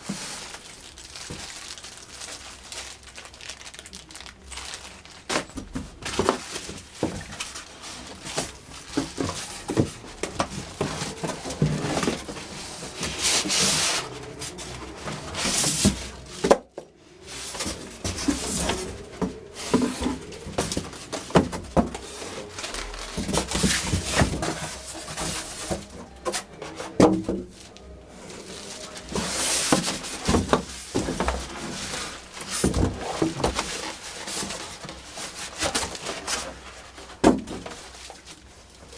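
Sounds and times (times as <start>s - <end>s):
plastic and cardboard rustling: 0.0s - 38.9s.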